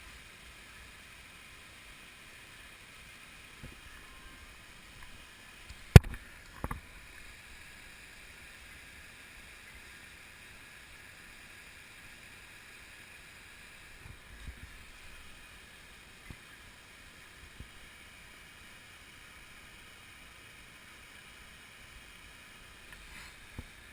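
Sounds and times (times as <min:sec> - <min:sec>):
faint steady rushing noise: 0:00.0 - 0:23.9.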